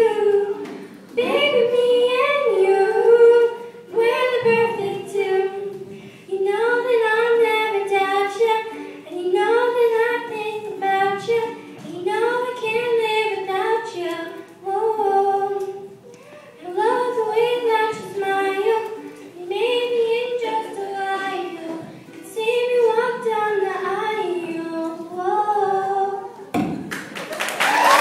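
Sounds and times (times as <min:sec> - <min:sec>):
girl singing into a microphone: 0:00.0 - 0:26.6.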